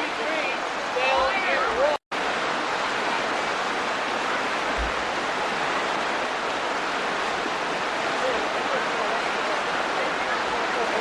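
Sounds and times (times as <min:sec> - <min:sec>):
floodwater rushing in river: 0:00.0 - 0:11.0.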